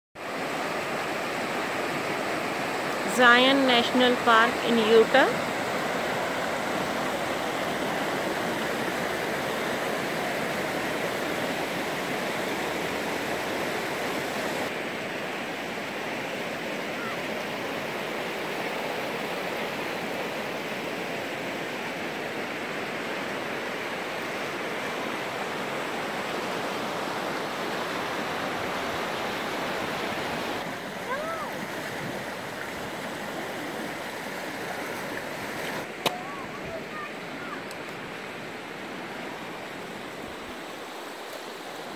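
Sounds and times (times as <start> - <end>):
river rushing over rapids: 0.2 - 41.9.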